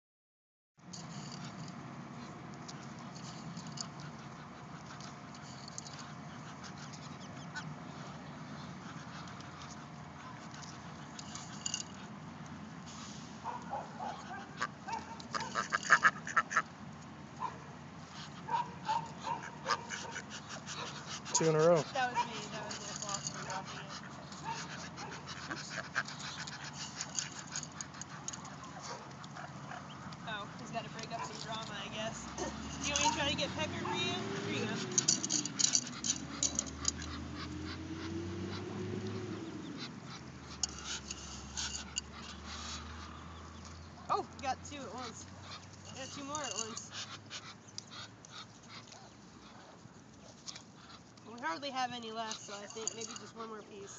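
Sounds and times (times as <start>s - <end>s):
ducks giving soft calls: 2.2s - 12.6s, 13.4s - 53.9s.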